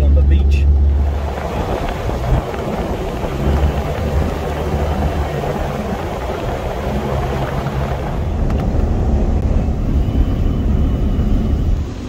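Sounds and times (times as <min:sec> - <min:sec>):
engine drone inside vehicle: 0:00.0 - 0:12.0
road noise: 0:00.0 - 0:12.0.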